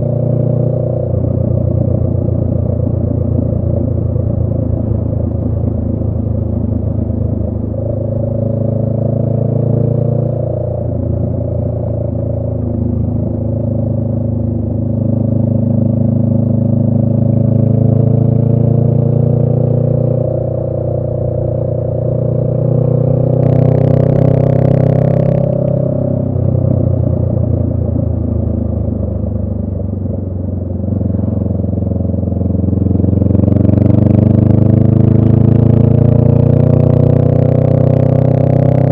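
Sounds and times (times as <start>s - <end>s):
motorcycle engine while riding: 0.0s - 38.9s.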